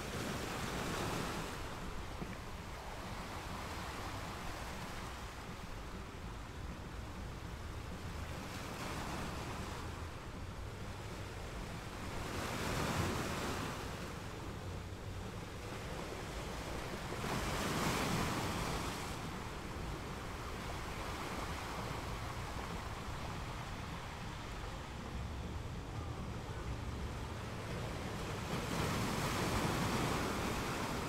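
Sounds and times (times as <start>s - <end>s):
waves breaking on shore: 0.0s - 31.0s.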